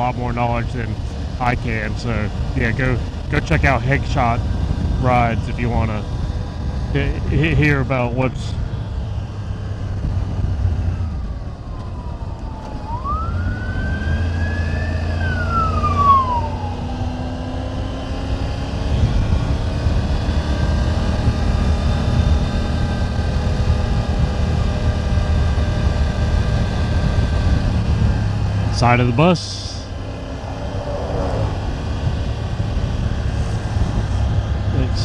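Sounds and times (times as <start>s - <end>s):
engine whine: 0.0s - 35.0s
motorcycle engine running: 0.0s - 35.0s
road rumble: 0.0s - 35.0s
wind: 0.0s - 35.0s.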